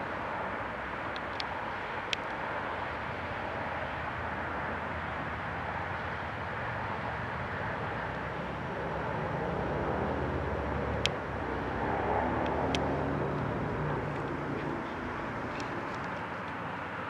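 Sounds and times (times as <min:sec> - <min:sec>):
outdoor background noise: 0:00.0 - 0:17.0
faint engine hum: 0:02.8 - 0:17.0.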